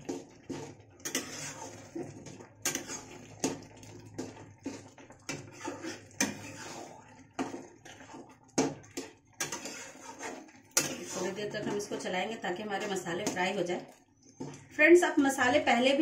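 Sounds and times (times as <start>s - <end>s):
metal spoon scraping a pan: 0.0s - 14.7s.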